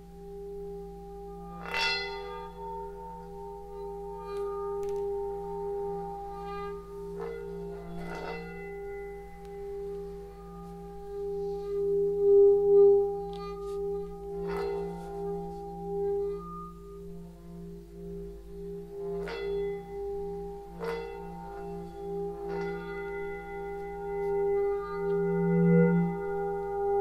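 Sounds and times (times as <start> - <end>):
sustained metal singing tones: 0.0 - 27.0
light strikes on metal bowls: 0.4 - 27.0.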